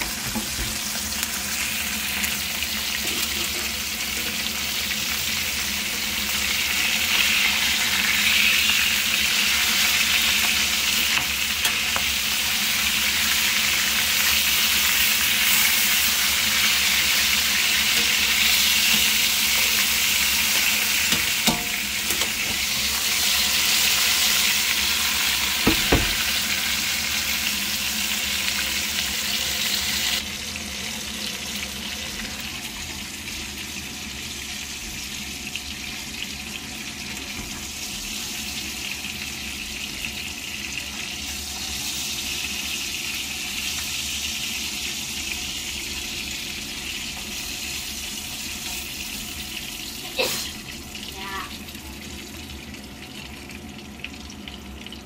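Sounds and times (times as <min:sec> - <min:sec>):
fish sizzling in butter: 0:00.0 - 0:55.0.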